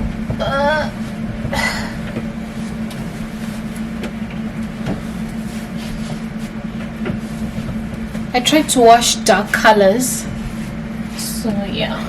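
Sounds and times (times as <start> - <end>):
appliance motor humming: 0.0 - 12.0
clothes rustling: 1.1 - 11.4.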